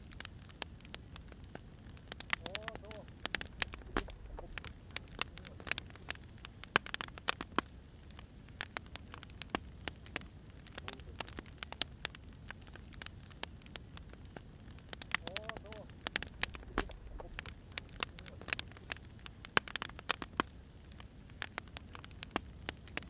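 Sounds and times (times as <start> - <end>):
firewood burning and crackling: 0.0 - 23.0.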